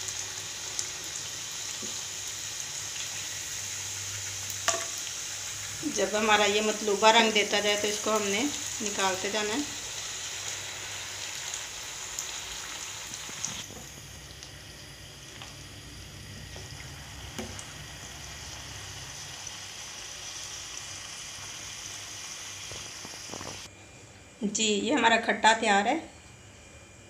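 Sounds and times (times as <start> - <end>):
dough sizzling in hot oil: 0.0 - 23.7.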